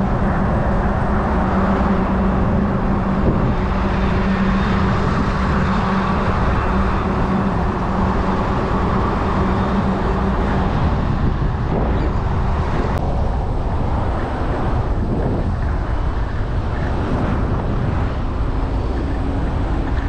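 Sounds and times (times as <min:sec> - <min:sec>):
vehicle running on road: 0:00.0 - 0:20.0.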